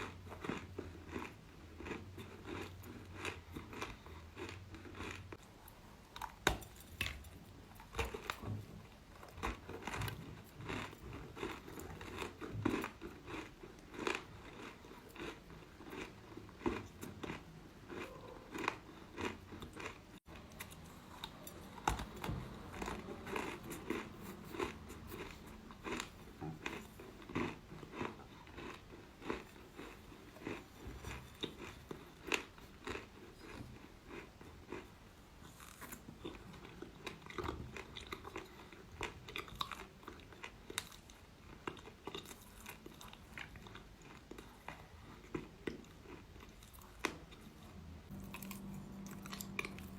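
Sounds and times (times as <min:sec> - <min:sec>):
chalk crunching while chewed: 0:00.0 - 0:49.9.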